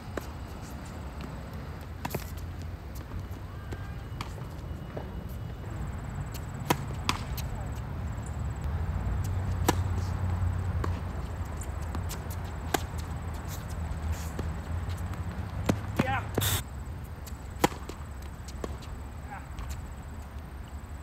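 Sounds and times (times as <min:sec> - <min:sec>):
tennis ball hits and bounces: 0:00.1 - 0:05.1, 0:06.0 - 0:13.8, 0:14.4 - 0:16.6, 0:17.6 - 0:19.8.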